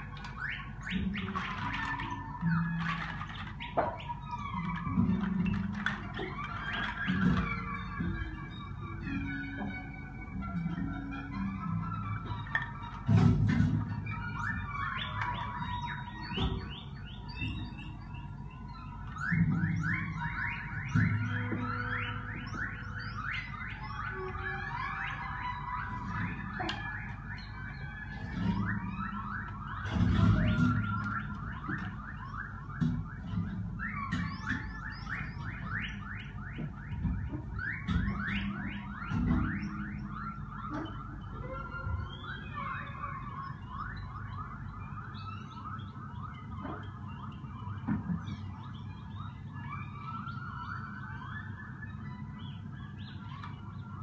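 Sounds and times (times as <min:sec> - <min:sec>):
sliding high tones: 0:00.0 - 0:52.6.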